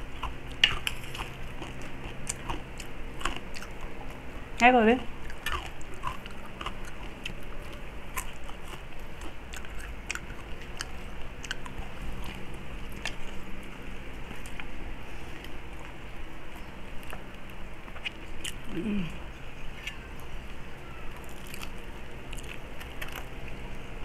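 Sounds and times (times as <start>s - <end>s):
chewing crispy food: 0.0s - 23.8s.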